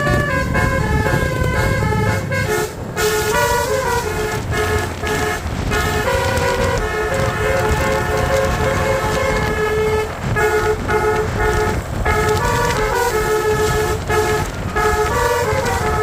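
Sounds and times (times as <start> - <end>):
low rumble: 0.0 - 16.0
multi-trumpet air horn melody: 0.0 - 16.0.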